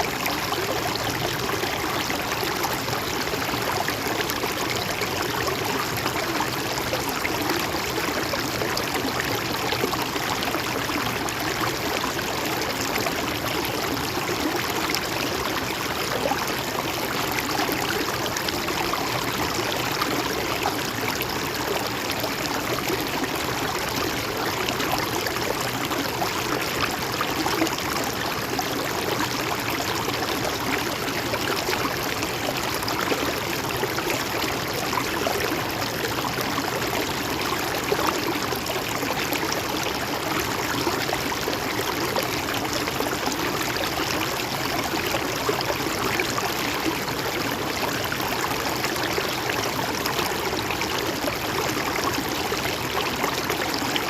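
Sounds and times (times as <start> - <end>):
stream gurgling over rocks: 0.0 - 54.0.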